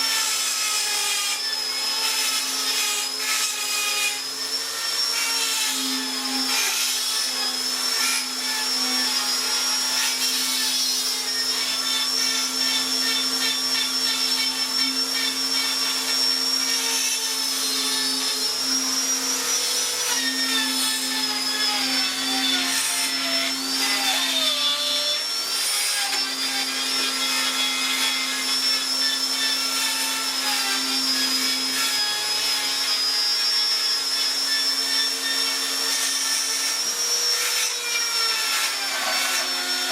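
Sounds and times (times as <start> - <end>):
power tool motor whining: 0.0 - 39.9.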